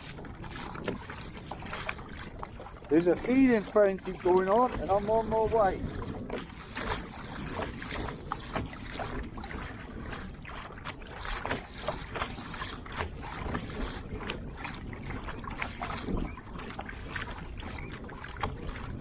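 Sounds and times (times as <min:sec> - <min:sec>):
paddle splashing water: 0:00.0 - 0:19.0
wind rumble on microphone: 0:00.0 - 0:19.0.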